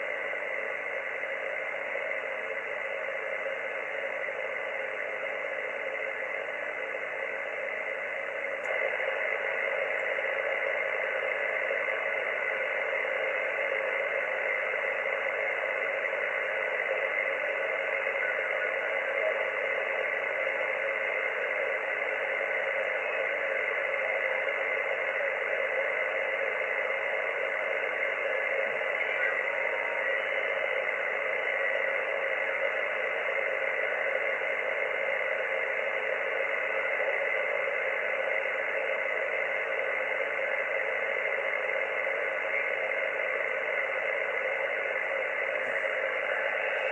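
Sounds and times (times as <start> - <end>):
radio static hiss: 0.0 - 46.9.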